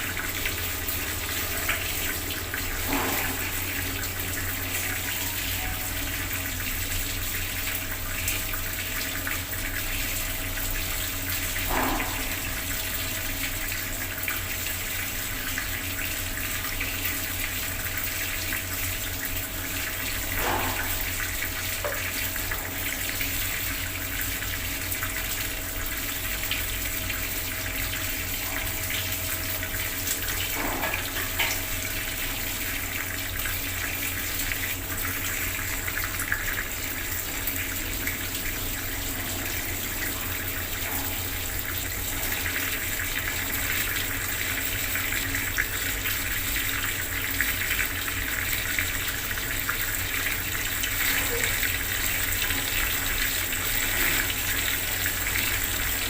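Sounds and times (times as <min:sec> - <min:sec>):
water tap running and splashing: 0:00.0 - 0:56.0.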